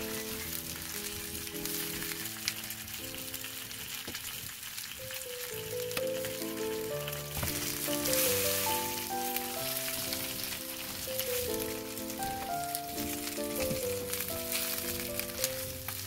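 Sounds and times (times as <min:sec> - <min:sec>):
light background music: 0:00.0 - 0:16.0
peppers sizzling in a frying pan: 0:00.0 - 0:16.0.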